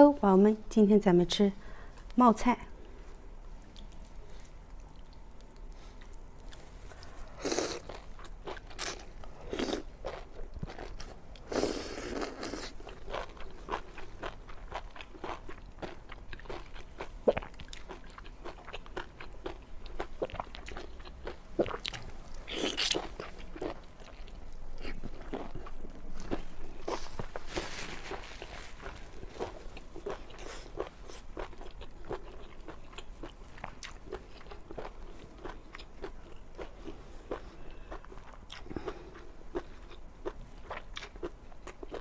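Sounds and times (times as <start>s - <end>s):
person chewing crunchy food: 3.6s - 42.0s.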